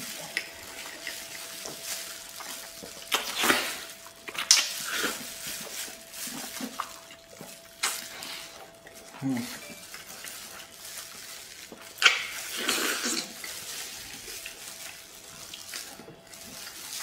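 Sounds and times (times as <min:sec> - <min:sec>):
faint steady hum: 0:00.0 - 0:17.0
wet chewing and smacking: 0:00.0 - 0:17.0.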